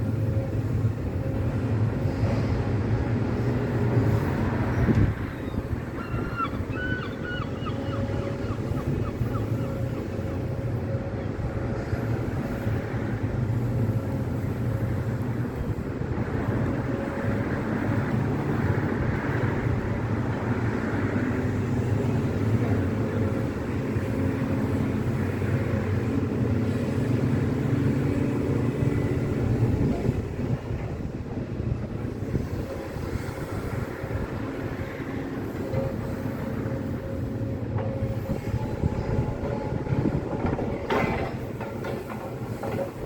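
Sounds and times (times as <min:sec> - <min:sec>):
excavator diesel engine droning: 0:00.0 - 0:43.0.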